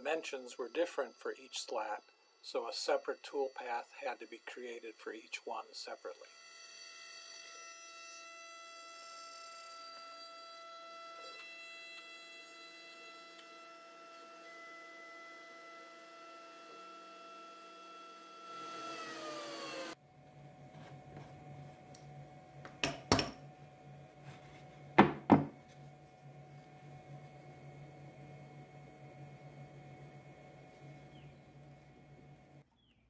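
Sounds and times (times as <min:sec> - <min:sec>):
router spindle whine: 0:00.0 - 0:32.7.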